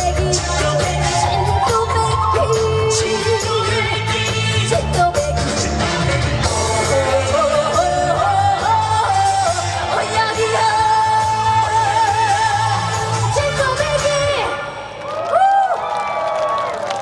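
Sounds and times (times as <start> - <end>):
band accompaniment: 0.0 - 14.6
woman singing: 0.0 - 14.8.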